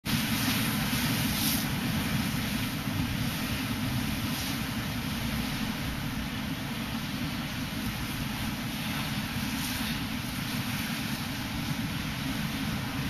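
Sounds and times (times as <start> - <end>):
sea waves breaking: 0.1 - 13.0.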